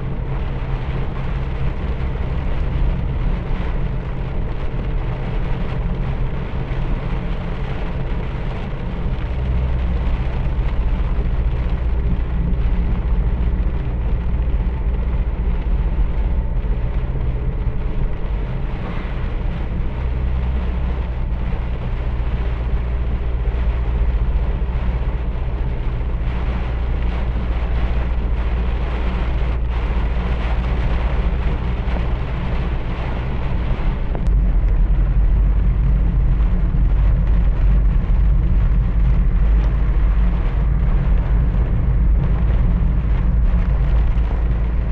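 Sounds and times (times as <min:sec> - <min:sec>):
deep rumble: 0:00.0 - 0:44.9.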